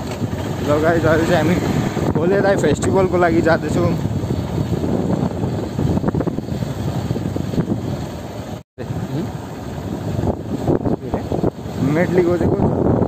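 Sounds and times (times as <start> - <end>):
motorcycle road noise: 0.0 - 13.0
wind buffeting microphone: 0.0 - 13.0.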